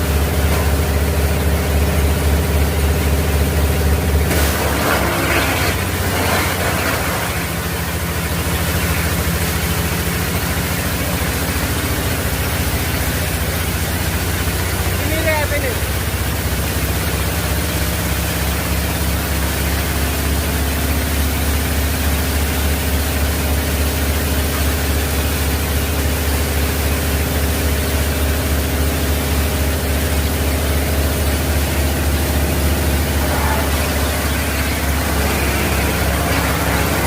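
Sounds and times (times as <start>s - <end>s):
wood chipper running: 0.0s - 37.0s.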